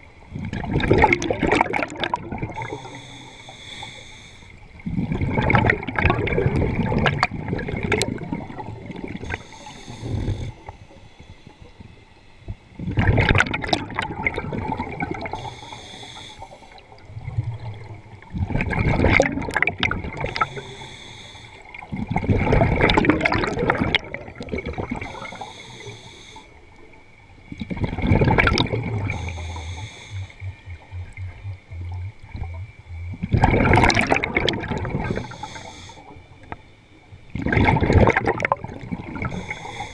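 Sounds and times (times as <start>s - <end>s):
quiet regulator hiss: 0.0s - 13.1s, 14.0s - 23.0s, 23.6s - 39.9s
regulator exhale bubbles gushing: 0.3s - 4.2s, 4.8s - 11.6s, 12.8s - 26.6s, 27.5s - 36.6s, 37.3s - 39.9s.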